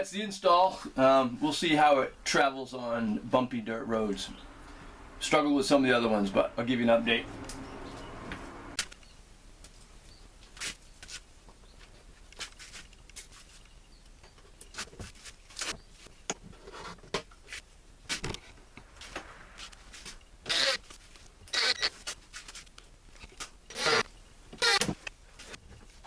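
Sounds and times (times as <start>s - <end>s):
faint steady background noise: 0.0s - 26.0s.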